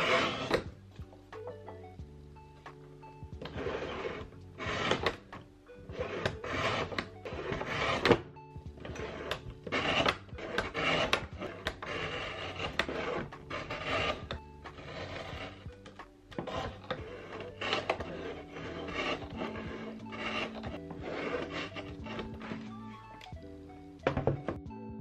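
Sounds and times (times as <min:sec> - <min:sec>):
paper trimmer rasping strokes: 0:00.0 - 0:00.6, 0:03.4 - 0:22.8
background music: 0:00.0 - 0:25.0.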